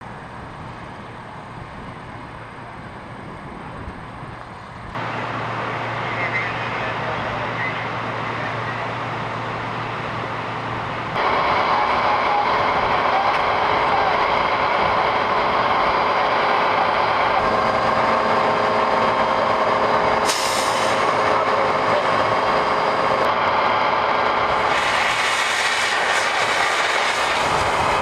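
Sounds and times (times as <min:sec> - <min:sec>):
engine running: 0:00.0 - 0:28.0
noisy rush: 0:00.0 - 0:28.0.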